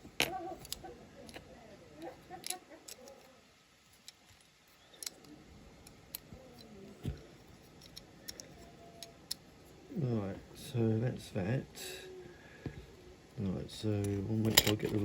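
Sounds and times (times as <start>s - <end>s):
small parts clicking and tapping: 0.0s - 9.8s, 12.6s - 15.0s.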